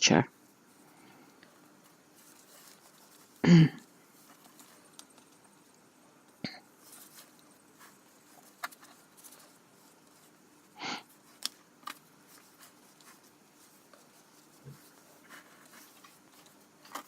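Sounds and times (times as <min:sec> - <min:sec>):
paper rustle: 0:00.4 - 0:17.0.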